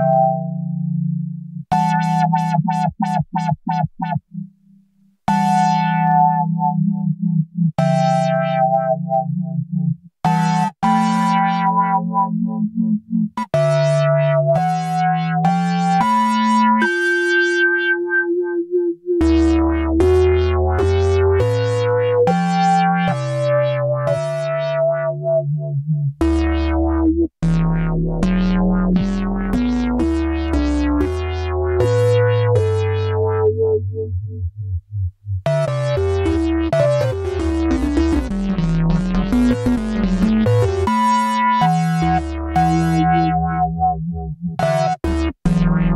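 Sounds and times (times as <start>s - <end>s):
synth melody keyboard-like notes: 0.0s - 45.9s
low synth bass line: 5.3s - 15.7s, 18.1s - 45.9s.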